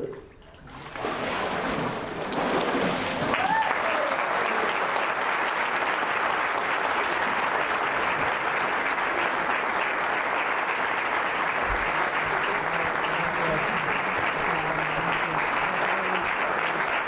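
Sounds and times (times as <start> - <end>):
congregation applauding: 0.9 - 17.0.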